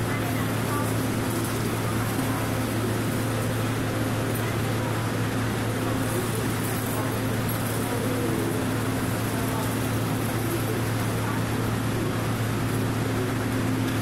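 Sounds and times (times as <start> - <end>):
faint background voices: 0.0 - 14.0.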